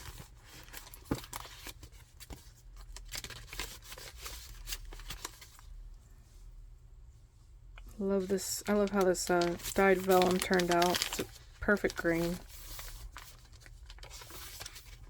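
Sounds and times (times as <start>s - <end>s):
paper rustling: 0.0s - 5.7s, 7.9s - 15.0s.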